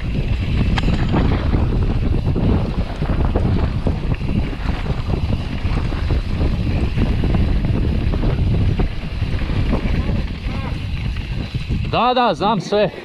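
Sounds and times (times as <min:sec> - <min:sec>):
bike knocks and rattles: 0:00.0 - 0:12.8
low rumble of bike tyres: 0:00.0 - 0:13.0
wind buffeting microphone: 0:00.0 - 0:13.0.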